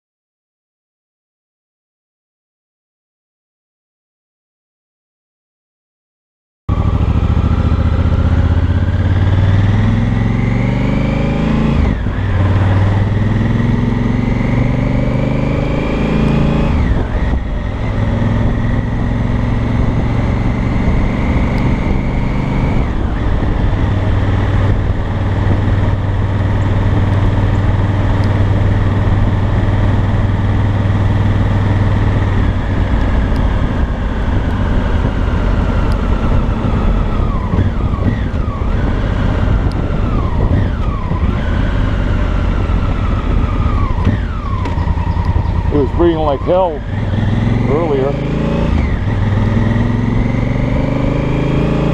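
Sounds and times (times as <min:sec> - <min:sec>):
motorcycle engine and exhaust: 0:06.7 - 0:51.9.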